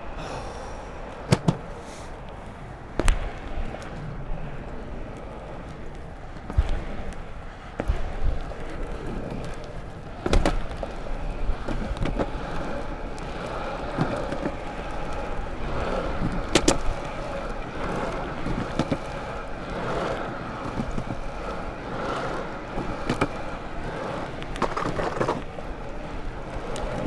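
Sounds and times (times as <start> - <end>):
longboard wheels rolling on asphalt: 0.0 - 27.0.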